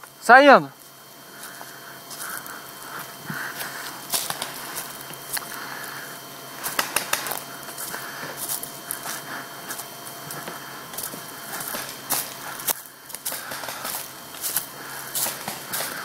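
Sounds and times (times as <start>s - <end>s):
footsteps on dry leaves and twigs: 0.7s - 16.0s.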